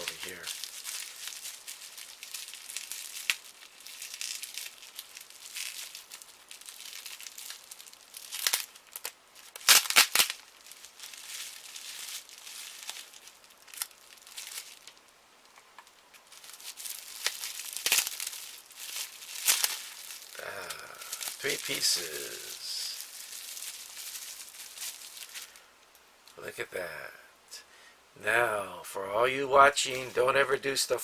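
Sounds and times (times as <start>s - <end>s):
tape ripping: 0.0s - 25.6s
plastic packaging crinkling: 0.0s - 25.7s, 29.7s - 30.7s.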